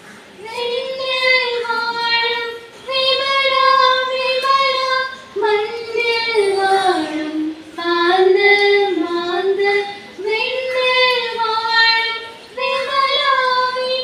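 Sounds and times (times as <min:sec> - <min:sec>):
women singing slow melody: 0:00.4 - 0:14.0.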